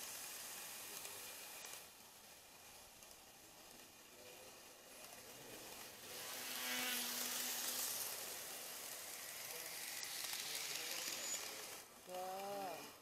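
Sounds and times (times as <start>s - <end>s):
model train wheels and motors buzzing: 0.0s - 13.0s.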